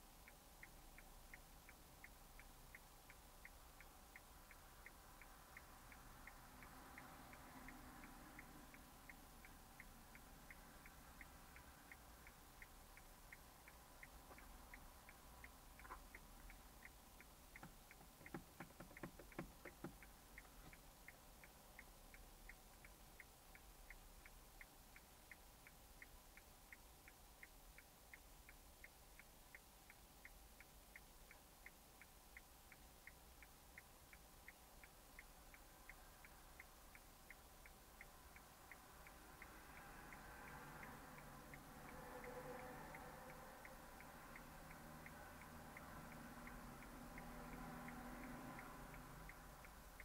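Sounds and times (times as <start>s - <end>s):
turn signal ticking: 0.0s - 50.0s
irregular clicks: 6.2s - 50.0s.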